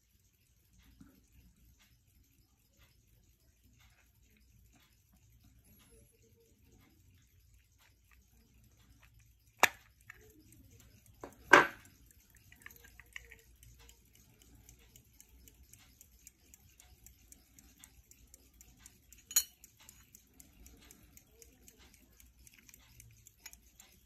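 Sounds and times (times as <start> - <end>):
watch ticking: 0.0 - 24.0.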